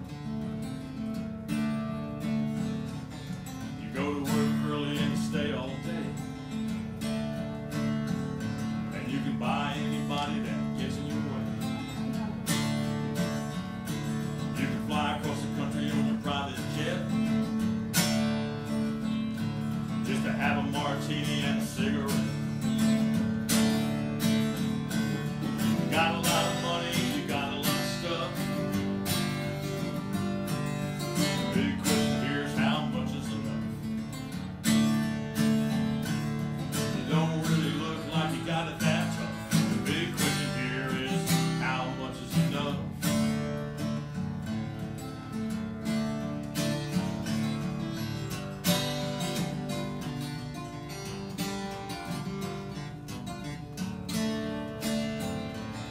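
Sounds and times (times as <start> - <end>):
acoustic guitar strumming blues: 0.0 - 55.9.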